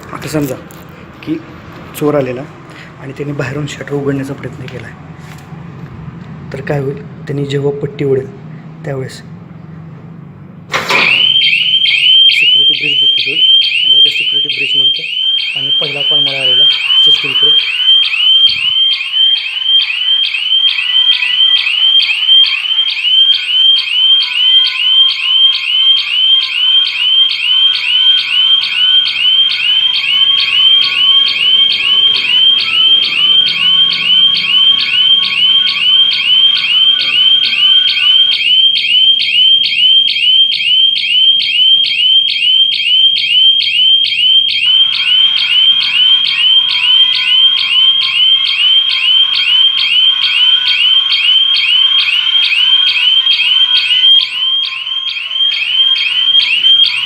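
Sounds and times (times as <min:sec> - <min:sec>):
warbling burglar alarm siren: 0:10.7 - 0:57.0.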